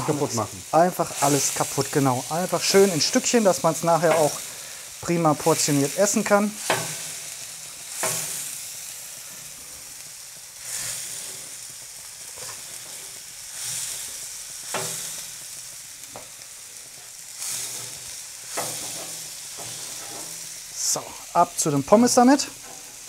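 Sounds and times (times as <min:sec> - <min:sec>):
burger patties sizzling on grill: 0:00.0 - 0:23.0.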